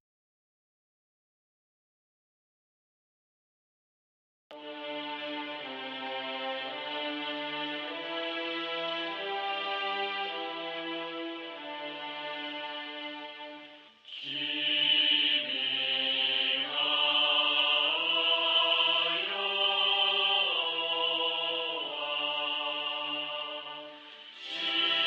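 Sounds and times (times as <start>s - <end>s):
slow music of long held chords: 4.5s - 25.0s.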